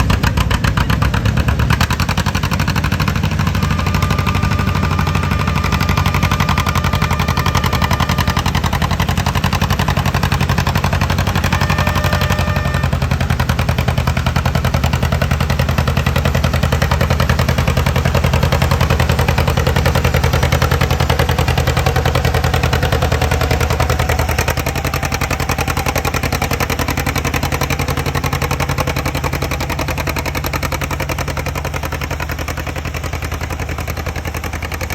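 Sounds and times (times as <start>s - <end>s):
tractor engine at full throttle: 0.0s - 34.9s.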